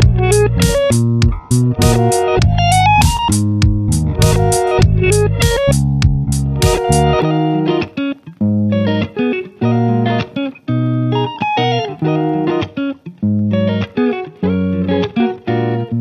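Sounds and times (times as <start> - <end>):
guitar music: 0.0 - 16.0.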